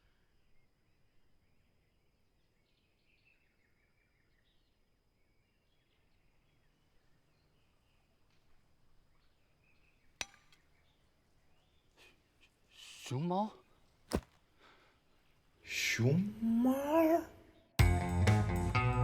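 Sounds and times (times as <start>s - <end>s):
soft bird chirps: 0.0s - 16.2s.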